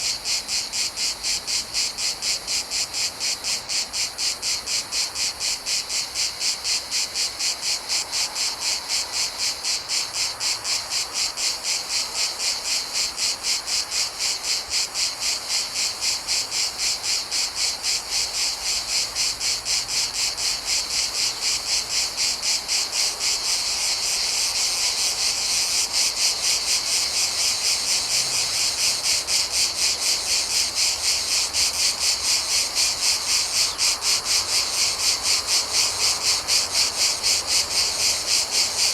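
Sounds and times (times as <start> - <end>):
cicadas chirping: 0.0 - 38.9.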